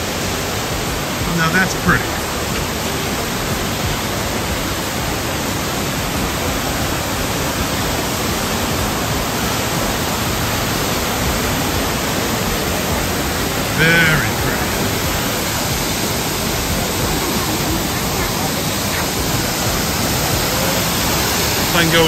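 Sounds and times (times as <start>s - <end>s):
waterfall rushing into a pool: 0.0s - 22.0s.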